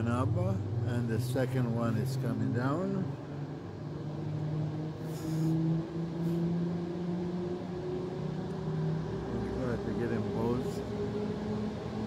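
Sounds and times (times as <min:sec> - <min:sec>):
cable car machinery hum: 0:00.0 - 0:12.0.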